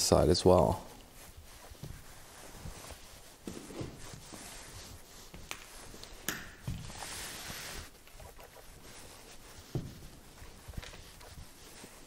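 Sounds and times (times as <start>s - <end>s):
rustling: 0.0s - 12.0s
soft footsteps on littered floor: 0.0s - 12.0s.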